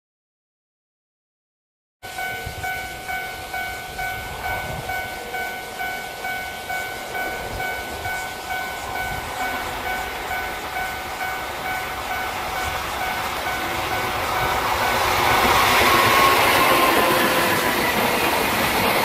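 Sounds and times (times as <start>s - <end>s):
approaching train rumbling: 2.0s - 19.0s
level-crossing warning bell ringing: 2.0s - 19.0s.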